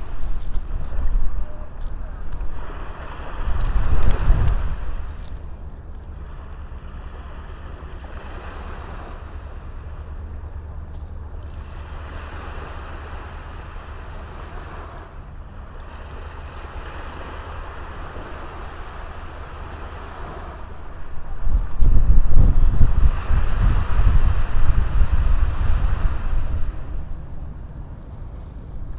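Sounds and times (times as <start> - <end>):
wind on microphone: 0.0 - 14.2, 15.9 - 28.9
sea waves washing onto beach: 0.0 - 28.9.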